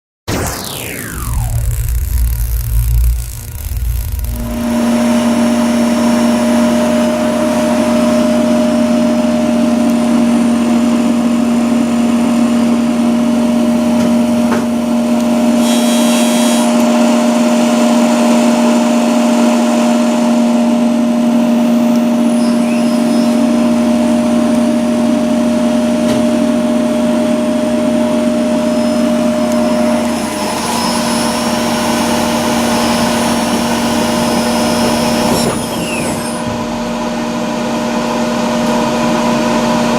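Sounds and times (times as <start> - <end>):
electric motor humming and whining: 0.7 - 39.1.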